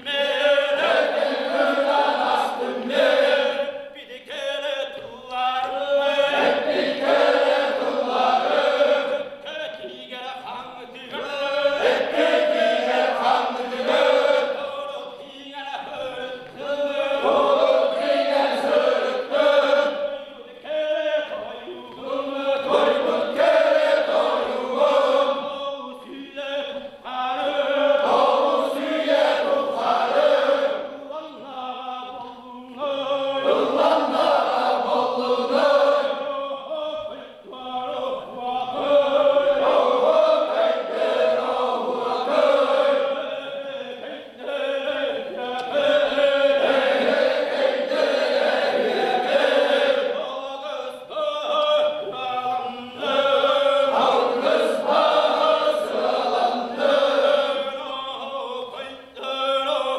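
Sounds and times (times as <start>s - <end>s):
men chanting a round-dance song: 0.0s - 59.9s.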